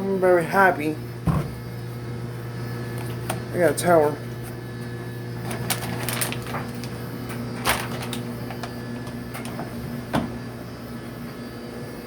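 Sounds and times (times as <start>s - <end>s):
clothes dryer humming: 0.0s - 12.0s.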